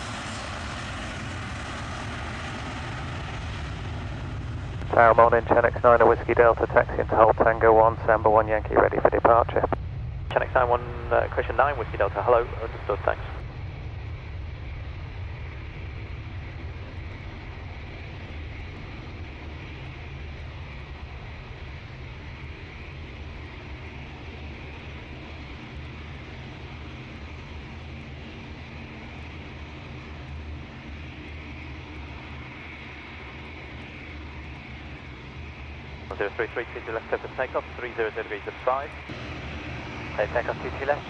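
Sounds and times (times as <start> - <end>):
jet engines rumbling and whining: 0.0 - 41.0.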